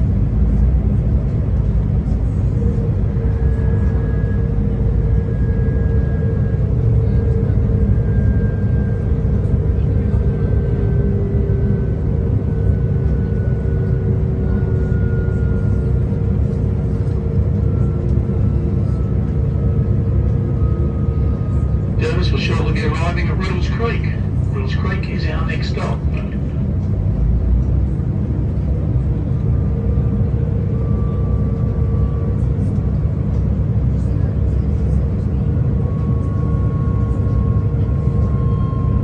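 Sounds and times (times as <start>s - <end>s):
train wheels and engine rumbling: 0.0s - 39.0s.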